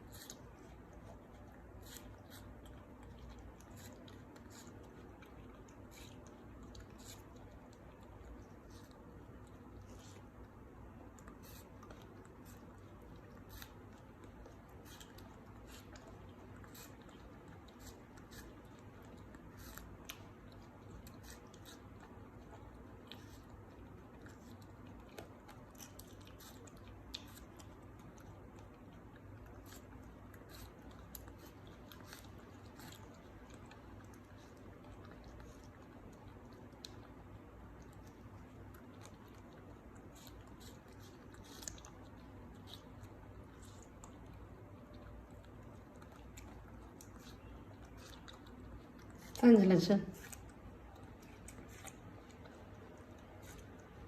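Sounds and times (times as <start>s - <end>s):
low steady hum: 0.0s - 54.0s
monkey chewing food: 0.0s - 54.0s.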